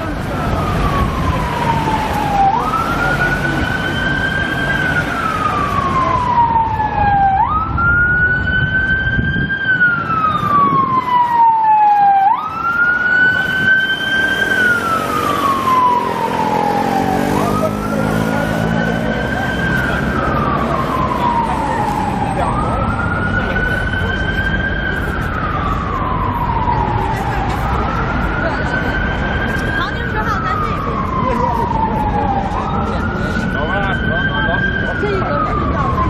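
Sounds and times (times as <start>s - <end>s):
police siren wailing: 0.0s - 36.0s
traffic rumbling: 0.0s - 36.0s.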